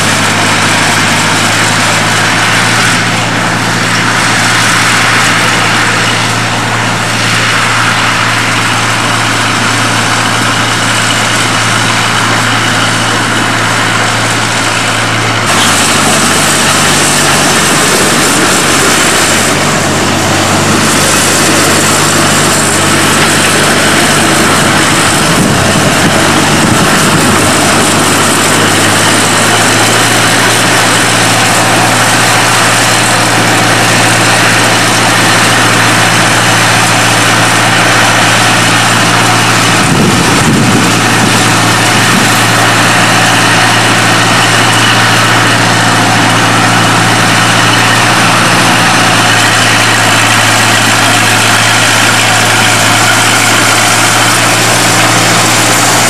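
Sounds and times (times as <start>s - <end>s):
diesel locomotive engine hum: 0.0s - 56.0s.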